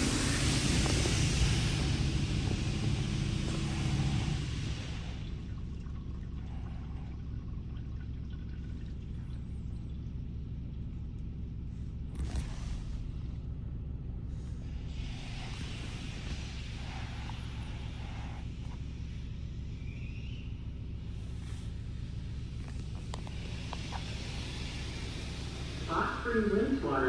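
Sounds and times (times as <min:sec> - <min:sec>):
low rumble of wash equipment: 0:00.0 - 0:27.0.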